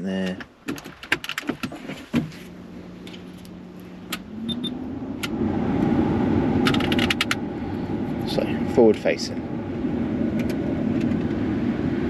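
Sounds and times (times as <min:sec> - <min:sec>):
air rushing from vents: 0:01.5 - 0:12.0
blower fan motor hum: 0:01.7 - 0:12.0.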